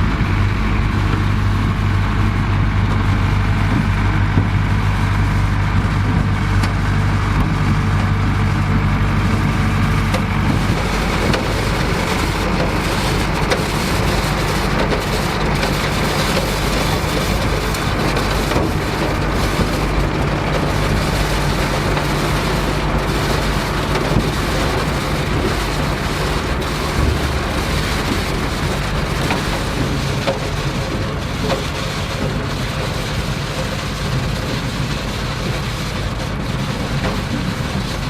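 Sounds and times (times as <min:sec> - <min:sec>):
dense even rumbling: 0:00.0 - 0:38.0
farm machinery engine drone: 0:00.0 - 0:38.0.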